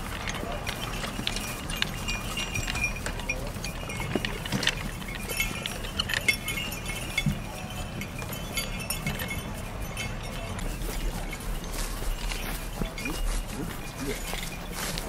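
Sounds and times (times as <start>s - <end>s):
harness fittings jingling: 0.0s - 15.0s.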